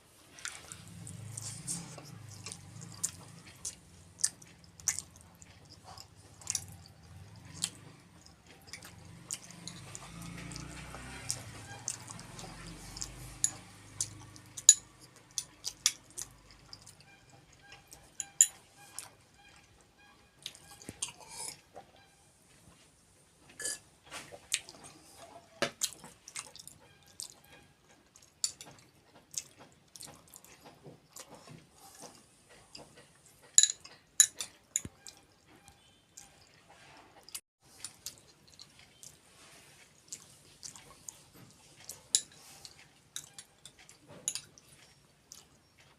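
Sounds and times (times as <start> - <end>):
wet chewing: 0.3 - 19.7, 24.3 - 36.6, 37.2 - 45.9.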